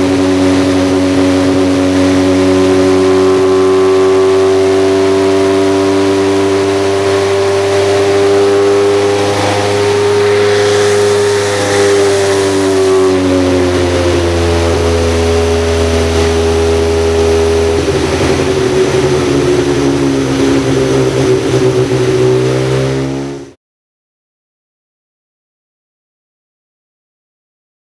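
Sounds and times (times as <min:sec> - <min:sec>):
racing engine revving hard: 0:00.0 - 0:23.6.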